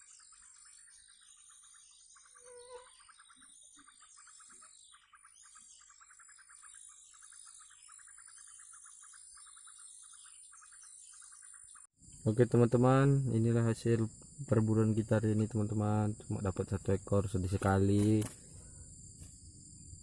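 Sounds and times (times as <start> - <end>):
descending bird calls: 0.0 - 18.8
pulsing insect trill: 0.0 - 20.0.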